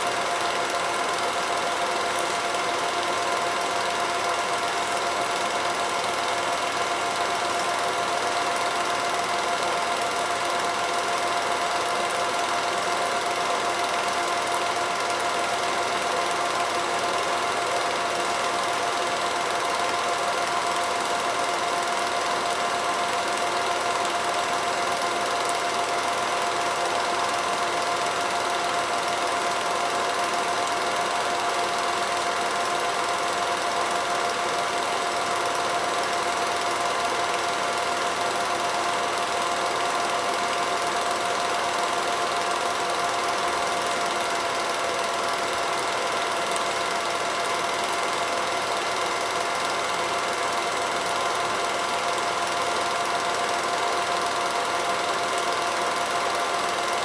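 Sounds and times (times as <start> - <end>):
film projector whirring: 0.0 - 57.0.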